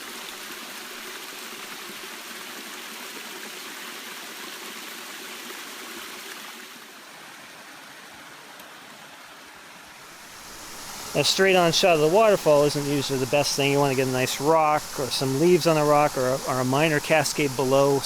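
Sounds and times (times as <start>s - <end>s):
stream water rushing: 0.4s - 18.0s.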